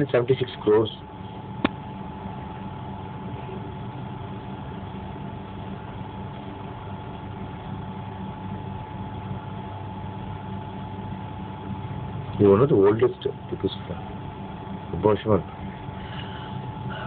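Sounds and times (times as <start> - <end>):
engine low hum: 0.0 - 17.0.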